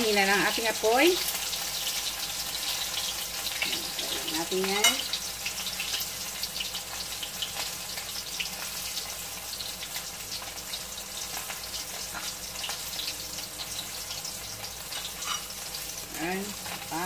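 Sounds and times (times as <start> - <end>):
fish frying in hot oil: 0.0 - 17.0
oil crackling and popping: 0.0 - 17.0.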